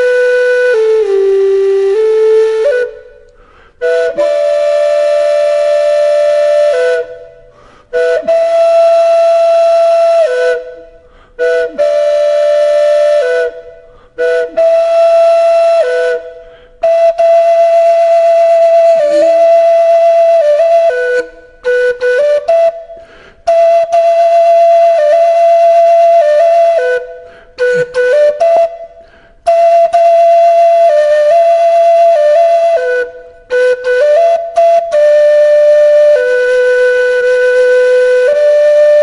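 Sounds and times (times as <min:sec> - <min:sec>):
solo flute melody: 0:00.0 - 0:39.0.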